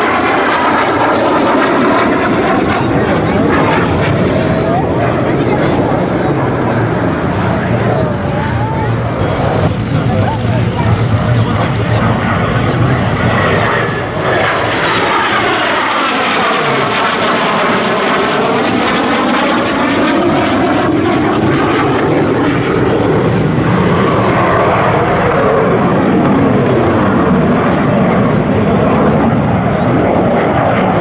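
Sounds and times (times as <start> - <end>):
jets flying past: 0.0 - 31.0.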